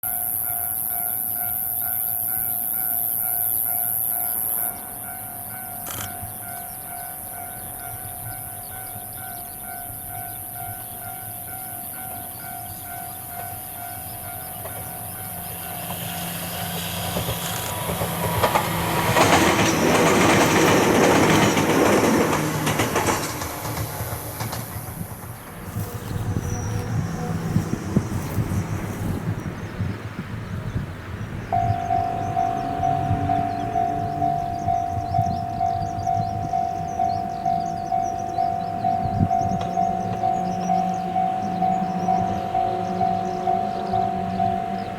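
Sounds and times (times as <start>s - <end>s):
level crossing warning bell ringing: 0.0s - 29.3s, 31.5s - 44.9s
train passing close by: 0.0s - 44.9s.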